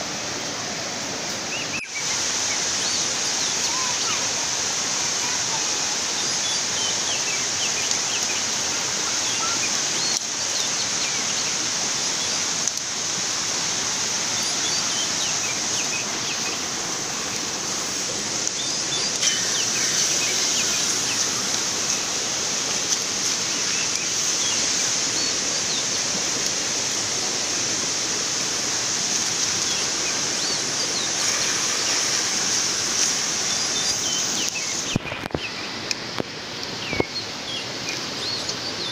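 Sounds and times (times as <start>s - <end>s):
insects hissing: 1.2s - 38.7s.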